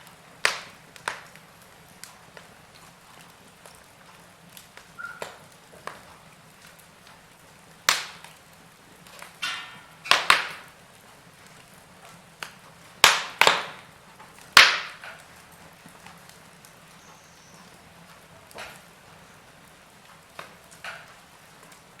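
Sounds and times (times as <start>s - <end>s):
faint steady hiss: 0.0s - 22.0s
wood fire crackling: 0.0s - 22.0s.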